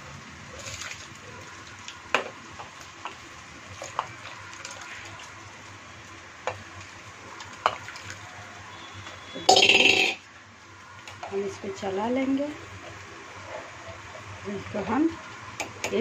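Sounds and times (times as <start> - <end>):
water boiling: 0.0 - 16.0.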